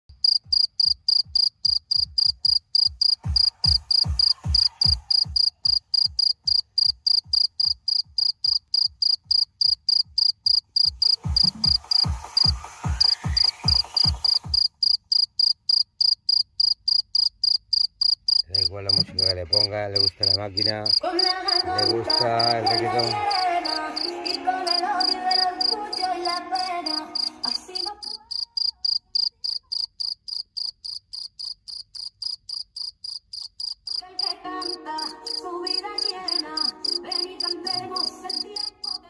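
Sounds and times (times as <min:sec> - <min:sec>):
cricket chirping: 0:00.1 - 0:39.0.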